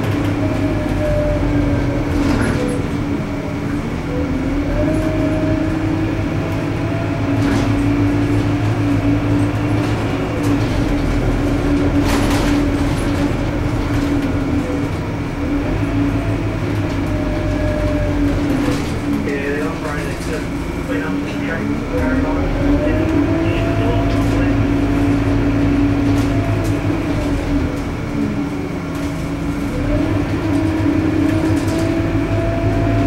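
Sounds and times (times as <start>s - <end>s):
bus engine hum: 0.0s - 33.0s.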